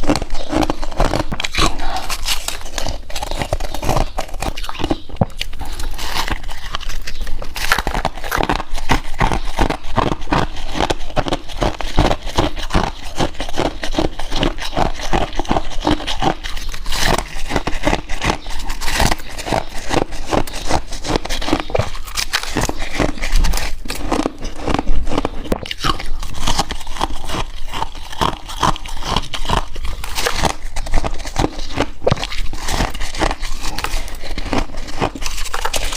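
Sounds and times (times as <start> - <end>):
person chewing ice: 0.0 - 35.9.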